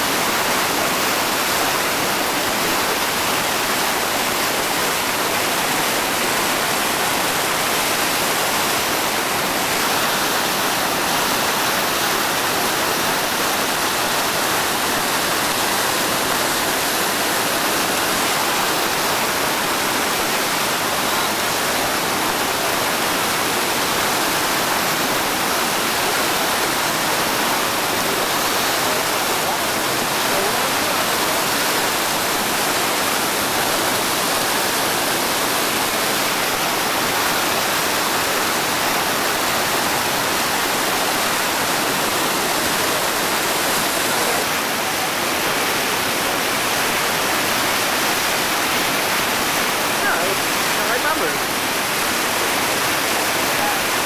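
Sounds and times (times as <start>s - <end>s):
whitewater rushing over boulders: 0.0s - 54.0s.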